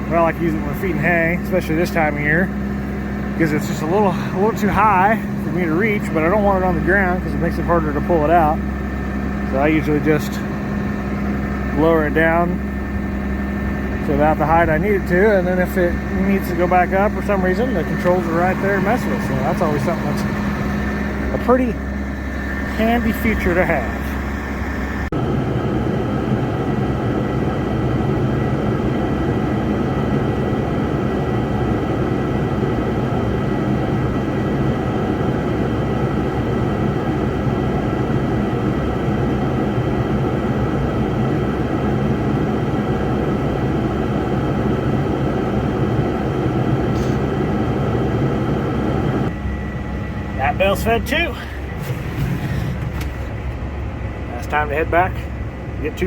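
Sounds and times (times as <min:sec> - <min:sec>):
tractor diesel engine droning: 0:00.0 - 0:25.5, 0:28.3 - 0:56.0.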